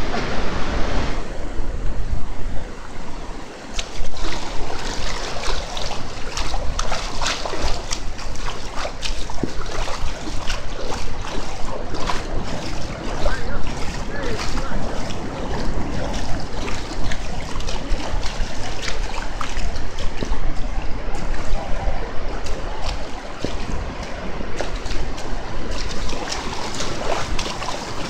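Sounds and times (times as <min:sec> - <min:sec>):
surf washing over sandy beach: 0:00.0 - 0:28.0
wind rumbling on microphone: 0:00.0 - 0:28.0.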